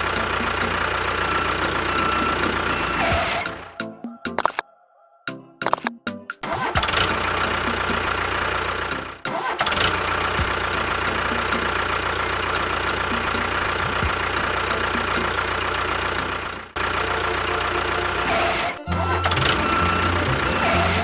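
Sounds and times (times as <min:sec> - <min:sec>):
engine running: 0:00.0 - 0:03.8, 0:06.4 - 0:21.0.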